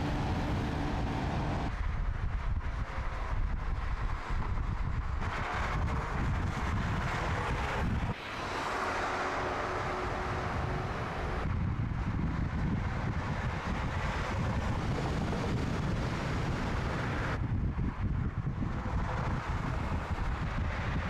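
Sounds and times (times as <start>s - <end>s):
car engine and tyre noise: 0.0s - 21.0s
wind rumble on microphone: 0.0s - 21.0s.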